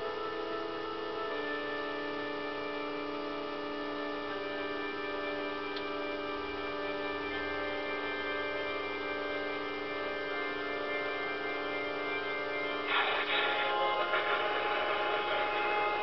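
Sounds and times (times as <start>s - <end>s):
sustained synth chord: 0.0s - 16.0s.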